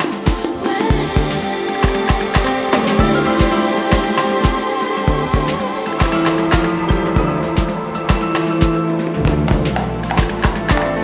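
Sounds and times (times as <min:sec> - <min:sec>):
ambient dub music: 0:00.0 - 0:11.0
kick drum beat: 0:00.3 - 0:10.9.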